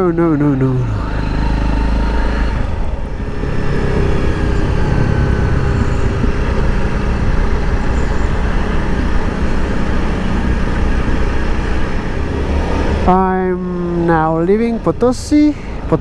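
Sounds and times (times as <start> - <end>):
motorcycle engine running: 0.0 - 15.9
wind and road noise: 0.0 - 16.0.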